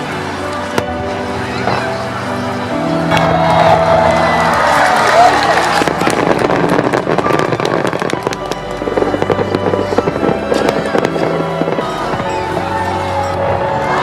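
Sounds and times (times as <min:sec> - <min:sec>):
distant fireworks bursting and crackling: 0:00.0 - 0:14.0
music playing: 0:00.0 - 0:14.0.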